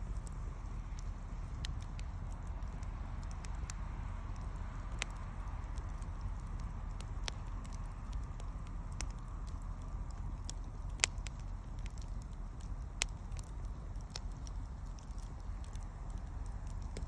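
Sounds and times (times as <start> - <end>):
bonfire crackles and pops: 0.0 - 17.0
fire low rumble: 0.0 - 17.0.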